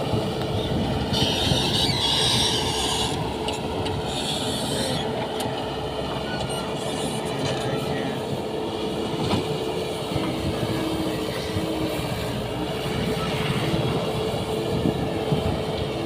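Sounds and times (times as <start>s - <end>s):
earthmoving machine engine: 0.0s - 16.0s.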